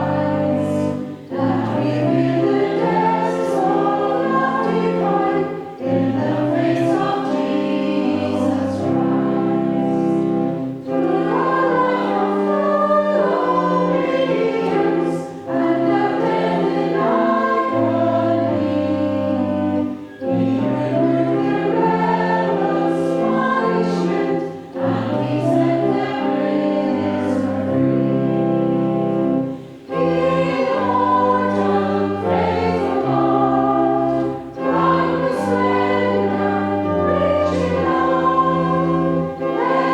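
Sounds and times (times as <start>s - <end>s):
many voices singing a hymn: 0.0s - 39.9s.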